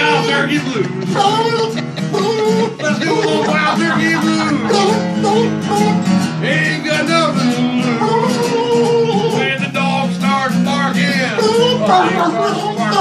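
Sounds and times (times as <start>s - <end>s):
acoustic guitar strumming: 0.0s - 13.0s
person singing blues: 0.0s - 13.0s.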